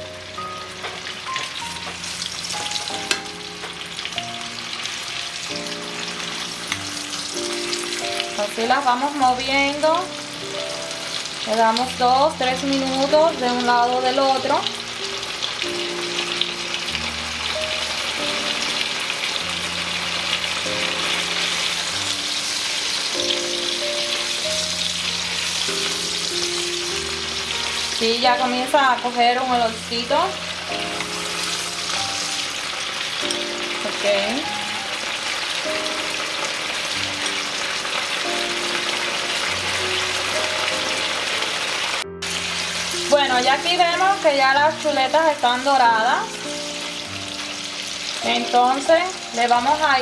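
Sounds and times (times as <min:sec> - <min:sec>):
pork chops sizzling in a skillet: 0:00.0 - 0:50.0
soft background music: 0:00.0 - 0:50.0.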